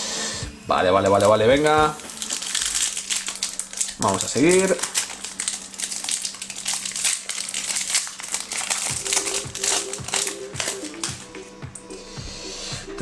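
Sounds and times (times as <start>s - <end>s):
faint background music: 0.0s - 13.0s
foil pack crinkling: 1.0s - 11.5s.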